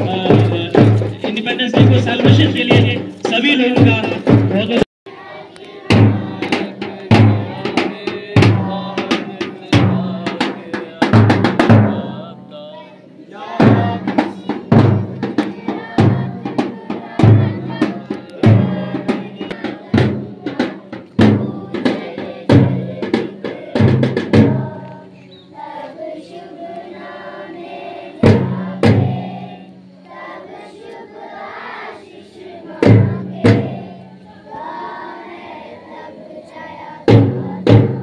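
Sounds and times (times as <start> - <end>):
marching drum beats: 0.0 - 12.5, 13.4 - 30.0, 31.4 - 35.1, 36.4 - 38.0.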